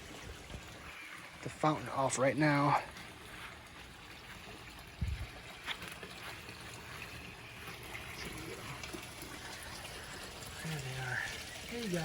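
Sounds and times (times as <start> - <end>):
water running down rock waterfall: 0.0 - 12.0.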